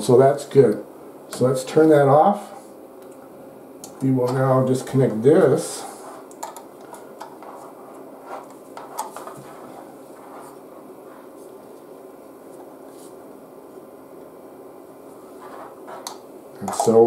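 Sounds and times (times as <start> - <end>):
cooling fan humming: 0.0 - 17.0.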